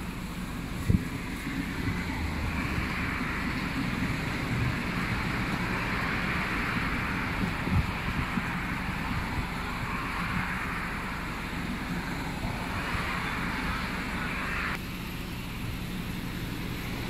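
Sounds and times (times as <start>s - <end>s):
wind rumbling on microphone: 0.0s - 14.8s
cars driving past: 0.0s - 17.0s.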